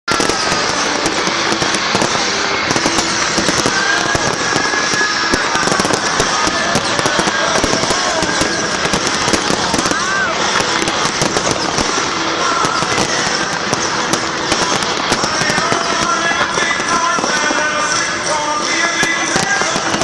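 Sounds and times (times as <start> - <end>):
fireworks and firecrackers bangs: 0.1 - 20.0.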